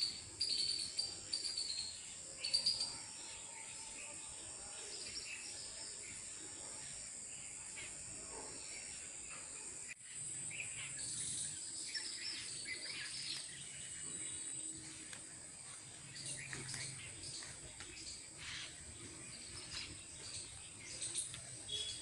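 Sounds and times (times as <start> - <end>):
bird chirps: 0.0 - 6.8, 7.4 - 15.2, 15.8 - 22.0.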